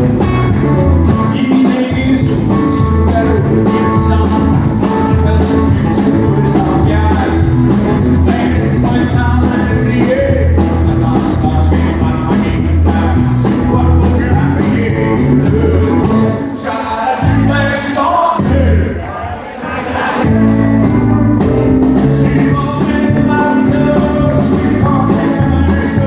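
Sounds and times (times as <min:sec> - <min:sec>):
man singing: 0:00.0 - 0:19.2, 0:20.1 - 0:26.0
country band playing: 0:00.0 - 0:26.0.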